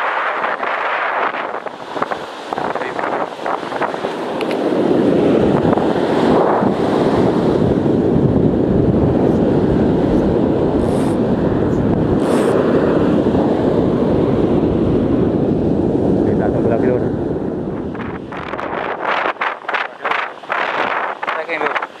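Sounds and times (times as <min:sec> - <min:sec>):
breaking surf: 0:00.0 - 0:16.7, 0:17.5 - 0:22.0
wind buffeting microphone: 0:00.0 - 0:22.0.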